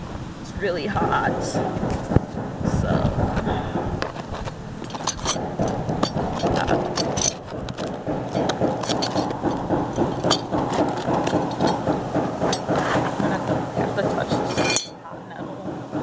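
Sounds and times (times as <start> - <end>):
low rumbling noise: 0.0 - 16.0
sharp clicks and knocks: 1.5 - 16.0.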